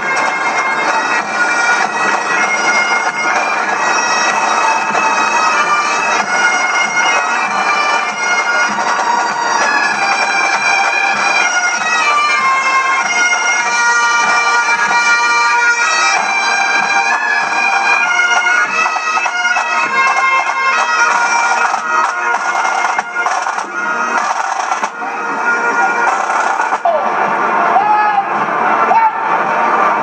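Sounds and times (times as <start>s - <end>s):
bagpipes playing a tune: 0.0s - 29.9s
drums beating: 0.0s - 30.0s.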